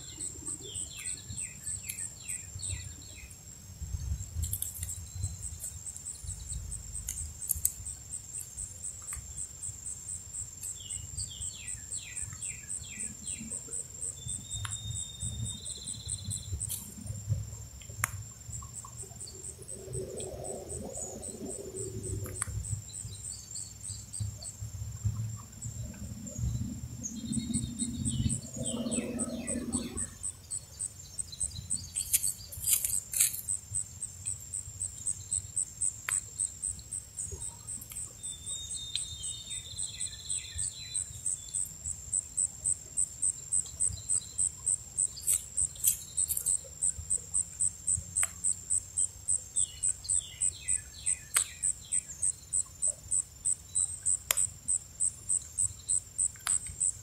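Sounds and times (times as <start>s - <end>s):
insects chirping: 0.0s - 57.0s.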